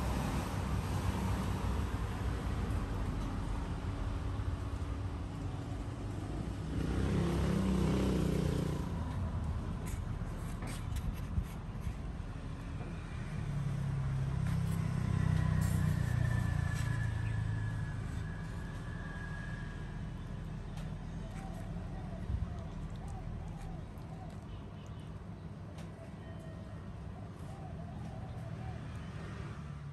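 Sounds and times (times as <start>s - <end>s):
road traffic rumble: 0.0s - 29.9s.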